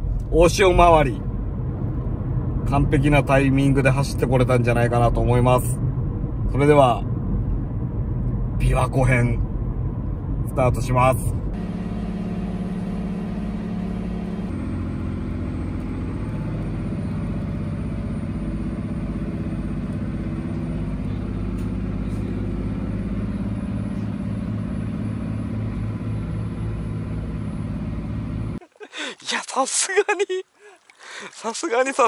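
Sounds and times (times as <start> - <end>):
ferry engine low hum: 0.0 - 28.7.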